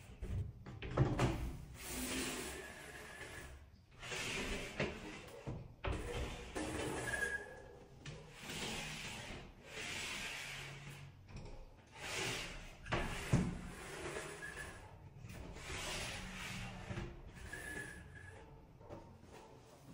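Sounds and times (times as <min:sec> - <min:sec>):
sliding doors scraping along track: 0:01.3 - 0:19.6.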